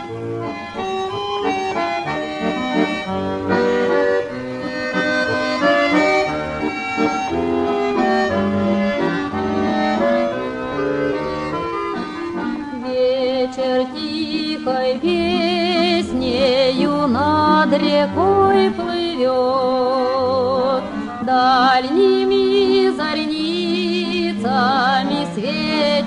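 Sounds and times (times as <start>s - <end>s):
button accordions playing: 0.0s - 26.0s.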